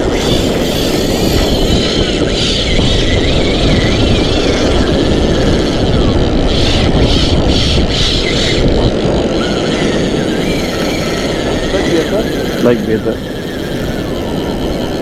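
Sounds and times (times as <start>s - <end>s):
wind and surf rushing: 0.0s - 15.0s.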